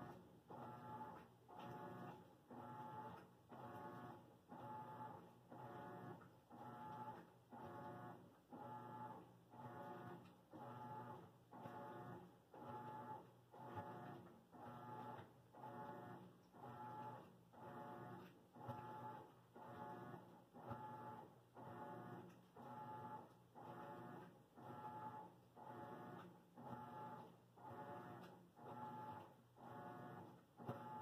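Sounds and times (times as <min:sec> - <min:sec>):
laundry machine rhythmic hum: 0:00.0 - 0:31.0.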